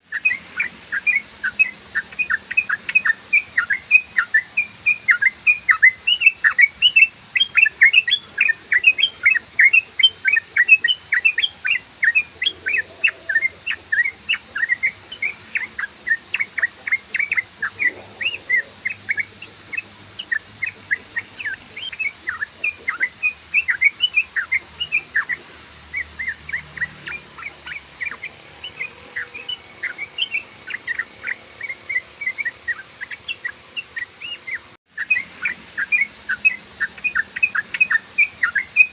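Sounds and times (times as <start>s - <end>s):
bulbul singing rapid chirps: 0.0s - 38.9s.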